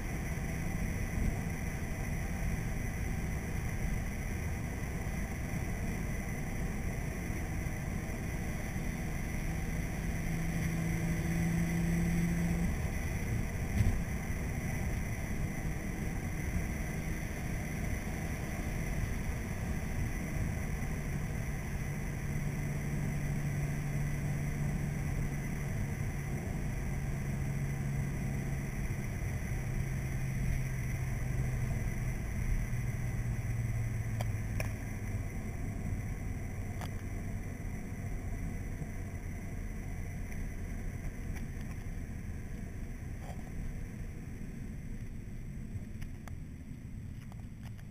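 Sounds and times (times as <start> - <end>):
car engine hum: 0.0 - 47.9
road noise: 0.0 - 47.9.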